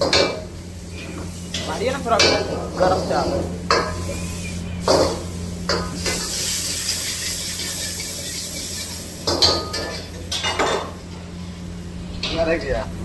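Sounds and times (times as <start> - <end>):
frying hiss: 0.0 - 11.4.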